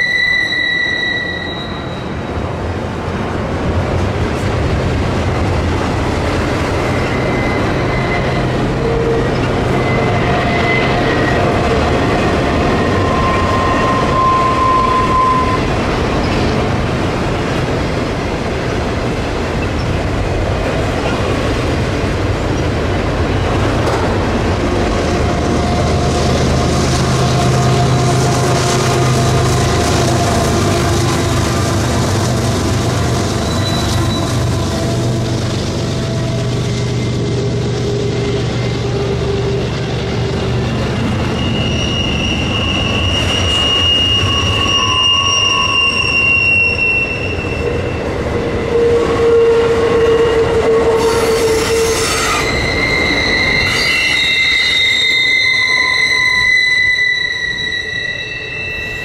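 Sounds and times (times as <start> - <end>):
wheel flange squeals: 0.0 - 2.2, 6.0 - 16.6, 22.5 - 59.0
diesel locomotive drone: 0.0 - 59.0
train wheels rumbling and clattering: 1.5 - 58.2.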